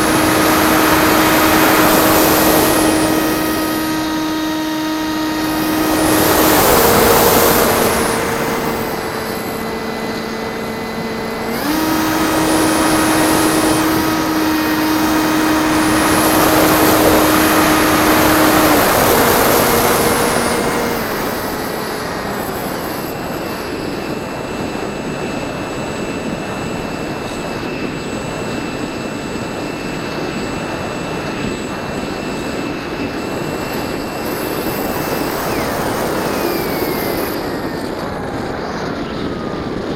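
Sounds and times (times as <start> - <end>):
model plane motor whine: 0.0 - 39.9.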